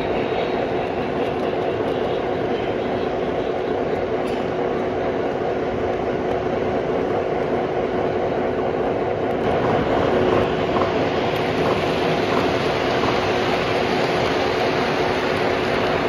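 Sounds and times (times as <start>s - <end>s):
model train wheels rumbling: 0.0s - 16.0s
steady hum: 0.0s - 16.0s.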